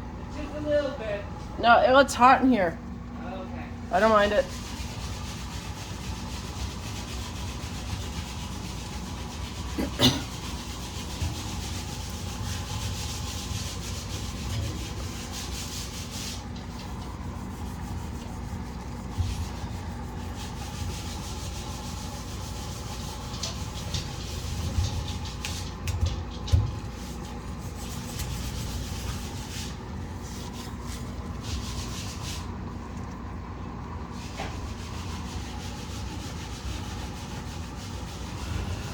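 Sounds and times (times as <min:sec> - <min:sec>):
cloth scrubbing fridge surfaces: 0:03.9 - 0:38.9.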